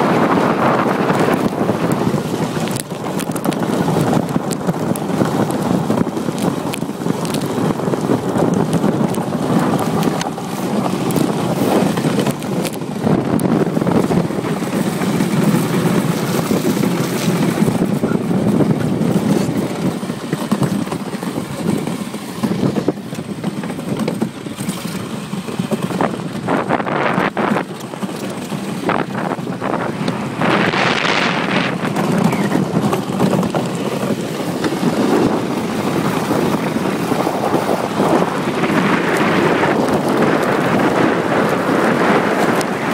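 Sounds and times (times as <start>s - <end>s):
iceboat runners rumbling on ice: 0.0s - 42.9s
wind rushing over microphone: 0.0s - 42.9s.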